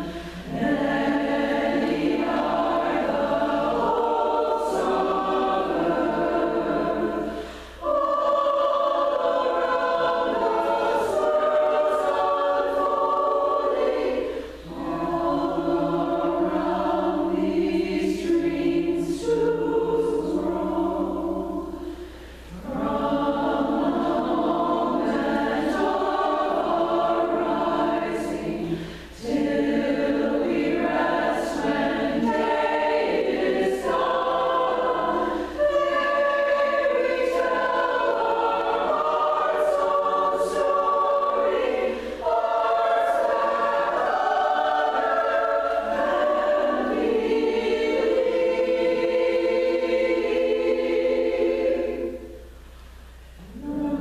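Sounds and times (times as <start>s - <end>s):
women's choir singing a cappella hymn: 0.0s - 54.0s.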